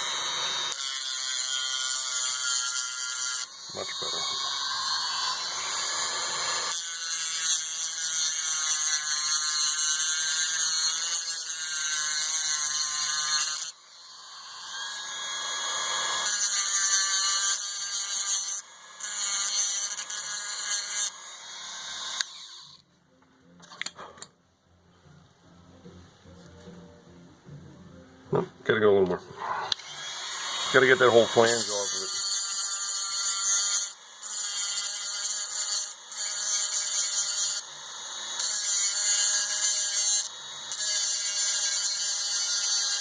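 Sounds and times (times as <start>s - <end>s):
rotary grinding tool whining: 0.0s - 22.8s, 29.4s - 43.0s.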